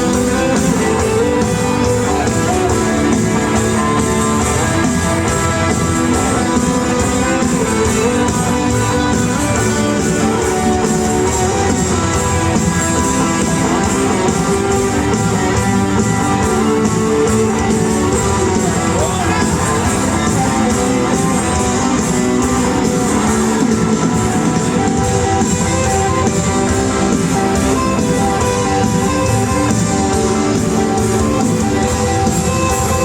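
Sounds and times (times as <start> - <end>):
live rock band over pa: 0.0 - 33.0.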